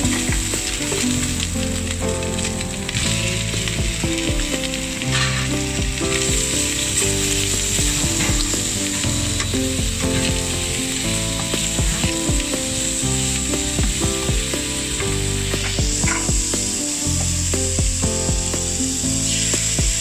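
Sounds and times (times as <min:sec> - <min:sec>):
soft background music: 0:00.0 - 0:20.0
vegetables sizzling in a pan: 0:00.0 - 0:20.0.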